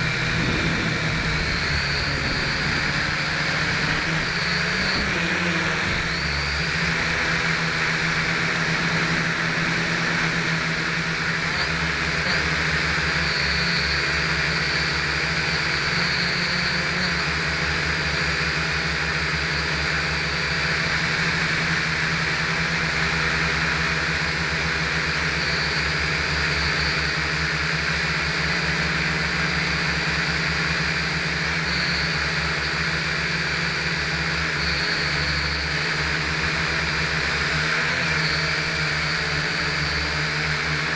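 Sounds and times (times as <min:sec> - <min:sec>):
quadcopter motors buzzing: 0:00.0 - 0:40.9.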